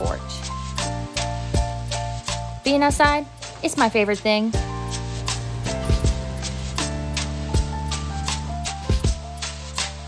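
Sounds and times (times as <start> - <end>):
steady drum beat: 1.2 - 10.0.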